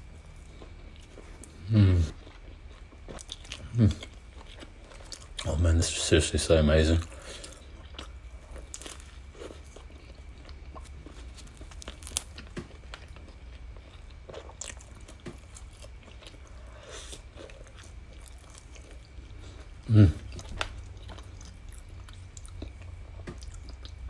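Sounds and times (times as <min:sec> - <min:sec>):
chewing bread with soft crunches: 0:00.0 - 0:24.0.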